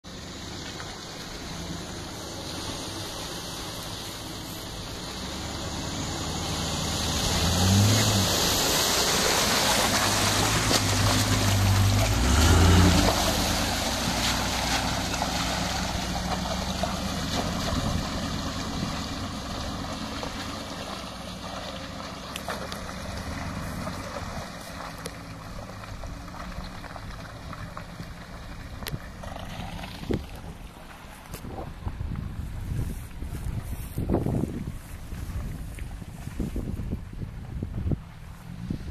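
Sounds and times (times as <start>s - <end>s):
car engine driving: 0.0s - 38.9s
water and mud splashing: 0.1s - 38.9s.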